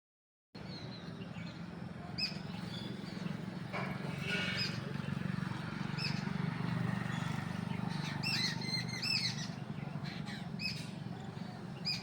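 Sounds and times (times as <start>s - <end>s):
birds chirping: 0.6s - 12.0s.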